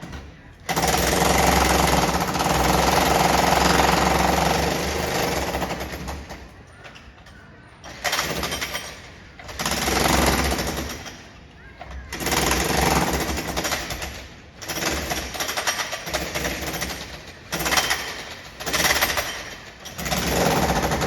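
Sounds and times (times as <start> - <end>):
demolition hammer on concrete: 0.0 - 6.5, 7.8 - 21.0.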